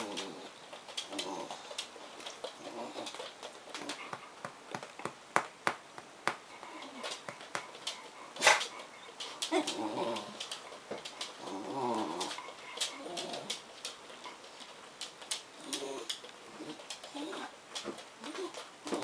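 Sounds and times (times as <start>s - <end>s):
claws clicking on tiled floor: 0.0s - 19.0s.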